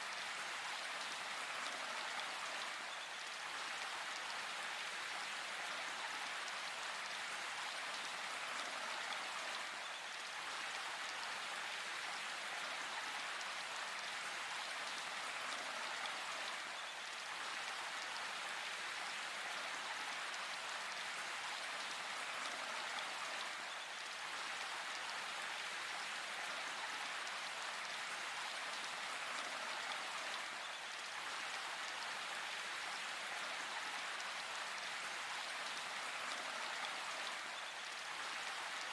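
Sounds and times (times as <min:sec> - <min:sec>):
steady rain in forest: 0:00.0 - 0:38.9.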